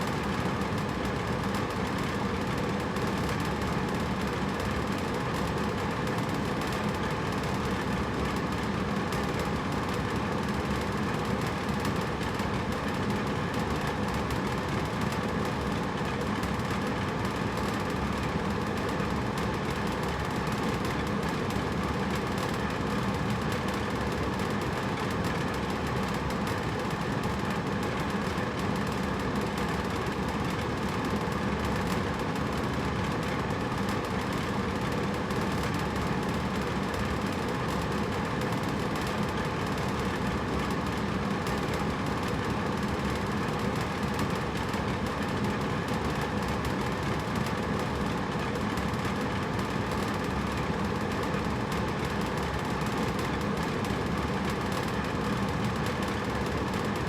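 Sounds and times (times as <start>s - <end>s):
air conditioner fan noise: 0.0s - 57.0s.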